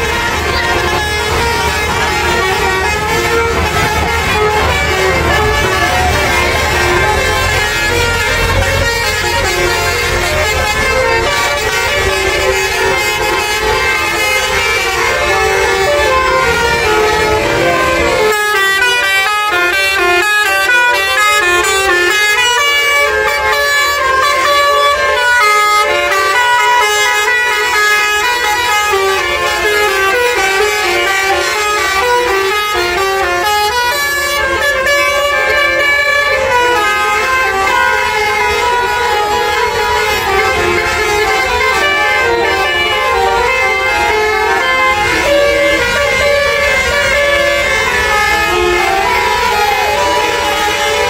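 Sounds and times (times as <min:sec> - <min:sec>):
multi-tone bus air horn melody: 0:00.0 - 0:51.0.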